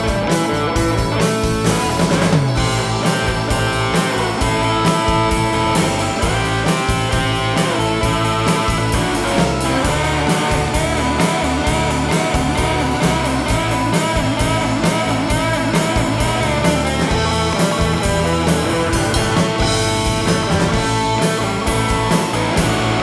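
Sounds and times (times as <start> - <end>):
drum kit steady beat: 0.0 - 23.0
electric guitar: 0.0 - 23.0
keyboard: 0.0 - 23.0.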